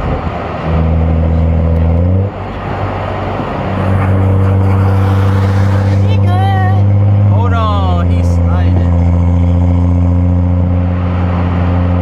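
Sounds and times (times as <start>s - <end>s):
road noise: 0.0s - 12.0s
car engine droning: 0.2s - 12.0s.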